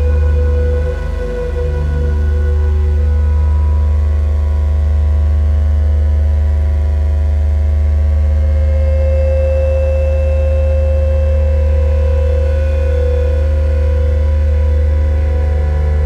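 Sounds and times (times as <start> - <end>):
low synthesizer drone: 0.0 - 16.0.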